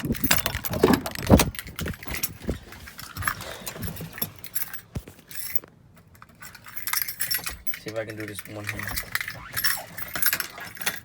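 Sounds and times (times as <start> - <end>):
handling clicks and rattles: 0.0 - 11.0.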